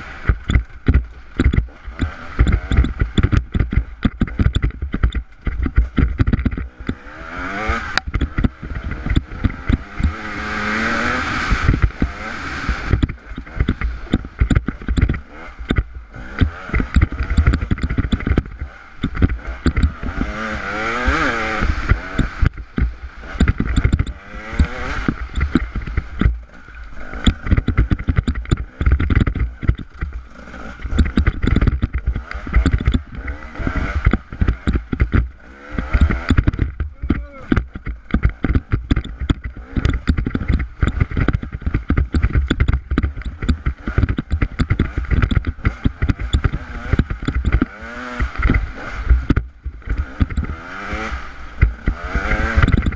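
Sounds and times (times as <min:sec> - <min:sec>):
knocking and clatter over rocks: 0:00.0 - 0:52.9
motorcycle engine revving: 0:00.0 - 0:52.9.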